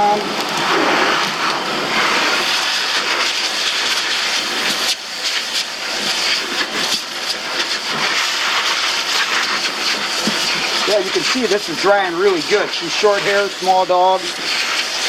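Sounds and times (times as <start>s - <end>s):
dog dryer blowing air: 0.0s - 15.0s.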